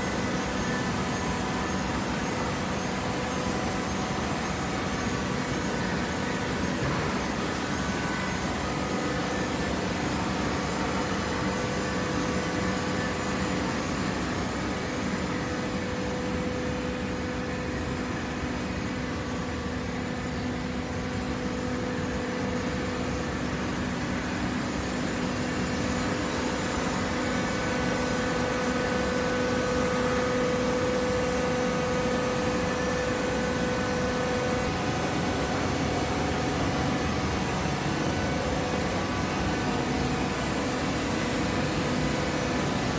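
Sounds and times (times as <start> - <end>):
baler motor and pump humming: 0.0 - 42.9.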